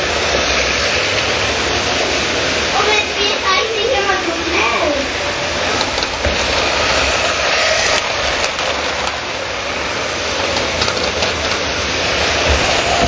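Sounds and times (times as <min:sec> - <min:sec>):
toy train motors whirring: 0:00.0 - 0:13.0
wheels clattering over track: 0:00.0 - 0:13.0.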